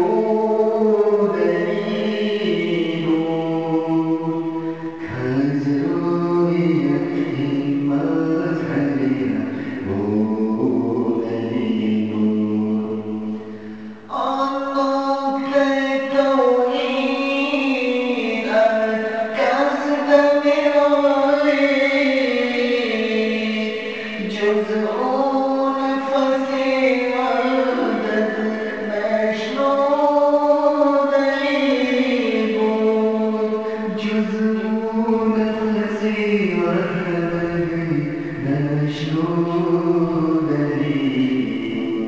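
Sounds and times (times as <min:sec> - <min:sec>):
voices chanting devotional song: 0:00.0 - 0:42.0.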